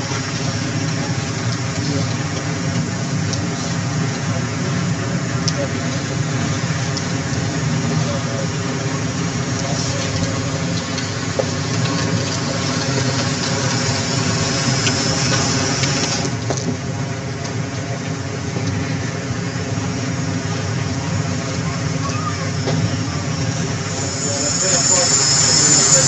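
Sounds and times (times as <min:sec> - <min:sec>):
loud hissing rush: 0:00.0 - 0:16.4, 0:19.4 - 0:26.0
vehicle engine running: 0:00.0 - 0:26.0.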